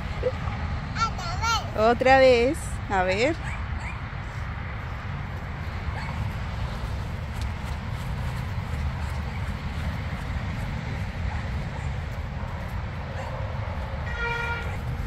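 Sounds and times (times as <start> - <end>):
wind rumbling on microphone: 2.0 - 15.0.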